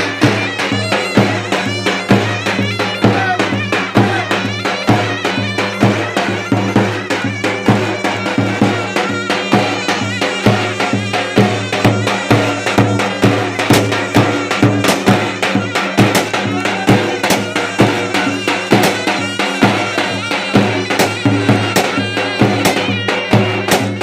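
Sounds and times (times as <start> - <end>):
driving drum beat: 0.0 - 24.0
reedy wind melody: 0.0 - 24.0.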